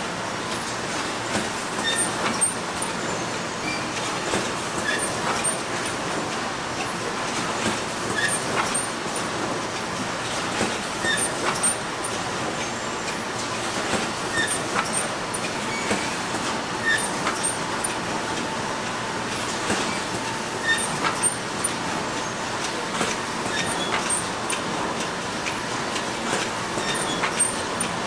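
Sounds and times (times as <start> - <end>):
production line machine noise: 0.0 - 28.0
conveyor clicks and clatters: 0.1 - 28.0.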